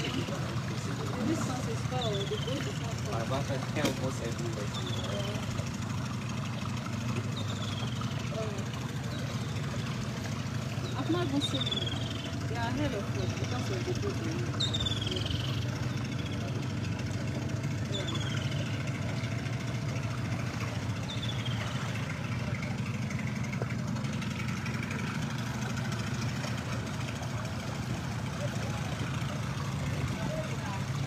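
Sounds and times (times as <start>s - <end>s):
boat engine humming: 0.0s - 31.0s.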